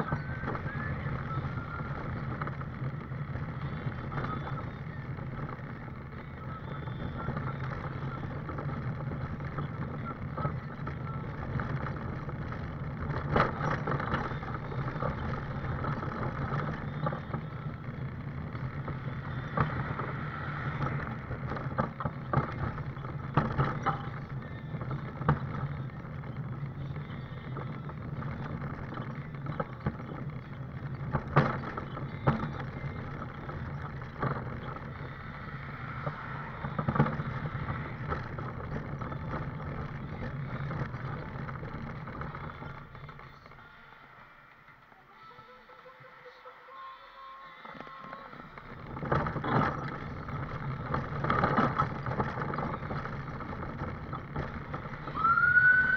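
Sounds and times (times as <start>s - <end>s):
road and wind noise: 0.0s - 44.9s, 47.6s - 55.9s
scooter motor humming: 0.0s - 55.9s
scooter rattling over bumps: 0.0s - 55.9s.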